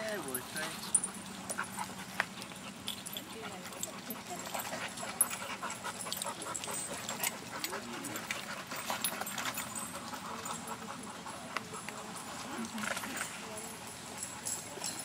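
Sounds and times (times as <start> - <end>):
faint voices: 2.9 - 15.0.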